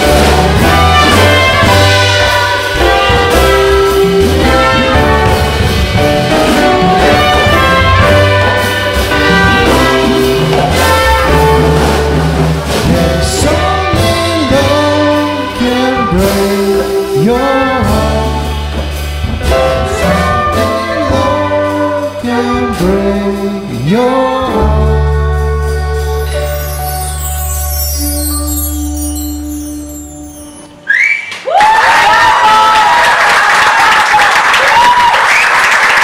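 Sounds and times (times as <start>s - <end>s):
upright double bass: 0.0s - 30.6s
saxophone: 0.0s - 31.2s
trumpet: 0.0s - 31.3s
drums: 0.0s - 36.0s
piano: 0.0s - 36.0s.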